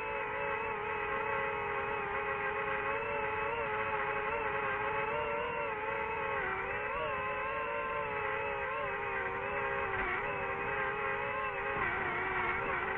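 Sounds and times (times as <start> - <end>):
drone motors whining: 0.0 - 12.9.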